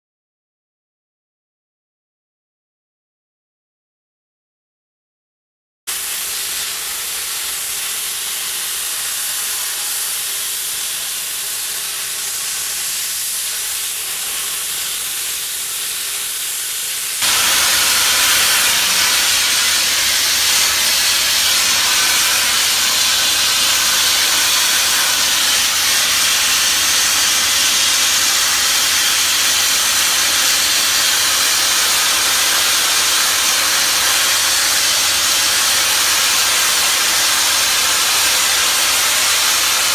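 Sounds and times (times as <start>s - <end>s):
high-pressure spray hissing: 5.9s - 39.9s.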